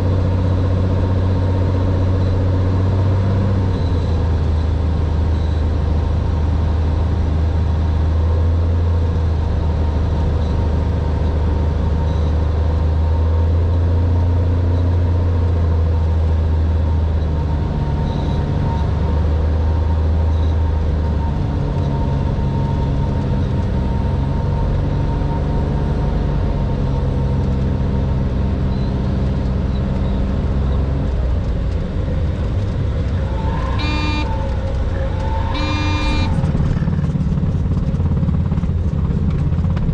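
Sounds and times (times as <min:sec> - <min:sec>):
propeller aircraft engine running: 0:00.0 - 0:39.9.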